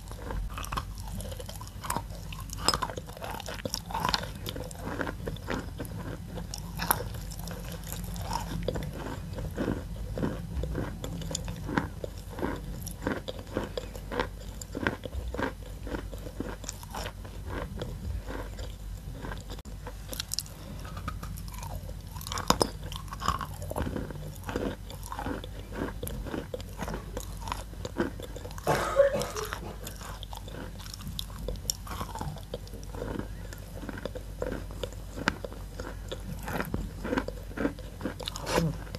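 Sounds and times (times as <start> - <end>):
chalk being chewed: 0.0 - 38.9.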